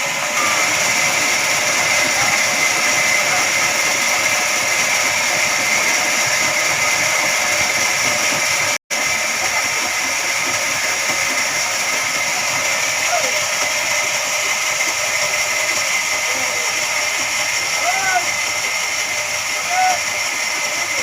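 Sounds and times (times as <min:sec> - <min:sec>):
band sawmill whining: 0:00.0 - 0:21.0.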